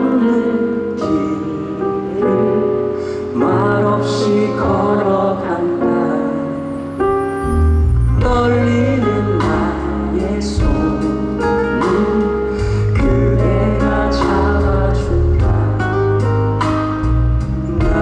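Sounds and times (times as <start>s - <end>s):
man singing: 0.0s - 7.0s, 8.1s - 18.0s
live pop band: 0.0s - 18.0s.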